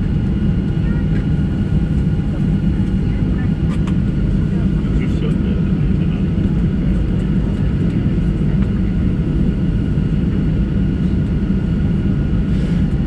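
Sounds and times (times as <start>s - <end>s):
jet engines idling in cabin: 0.0s - 13.0s.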